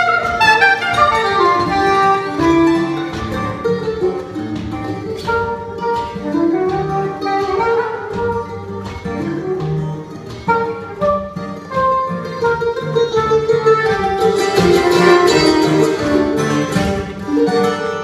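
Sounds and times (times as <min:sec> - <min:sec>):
soprano saxophone melody: 0:00.0 - 0:16.4
acoustic guitar picking: 0:00.0 - 0:18.0
mandolin picking: 0:00.0 - 0:18.0.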